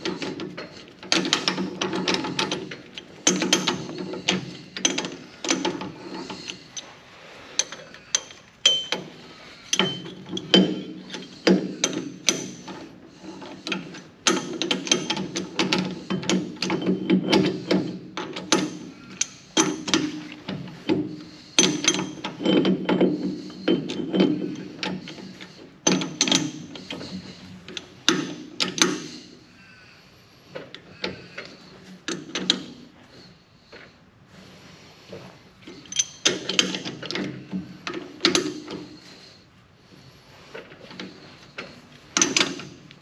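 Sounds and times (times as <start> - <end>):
metal clicks and clanks: 0.0 - 6.9, 7.5 - 29.4, 30.6 - 32.8, 35.6 - 39.3, 40.5 - 43.0.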